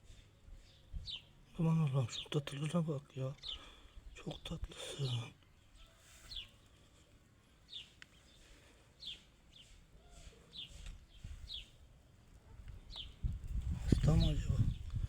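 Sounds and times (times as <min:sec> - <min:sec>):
small bird chirping: 0:00.6 - 0:01.4, 0:02.0 - 0:15.0.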